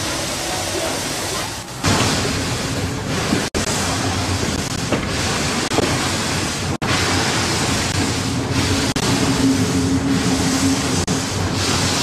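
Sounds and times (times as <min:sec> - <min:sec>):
steam train rushing noise: 0:00.0 - 0:12.0.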